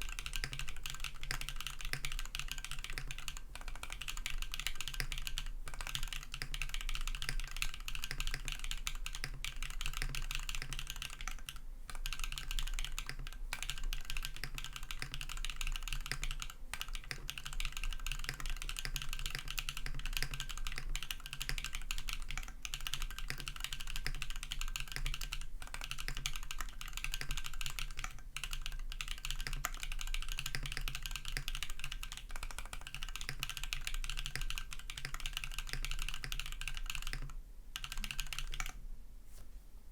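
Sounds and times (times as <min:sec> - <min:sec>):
mechanical keyboard typing: 0:00.0 - 0:38.8.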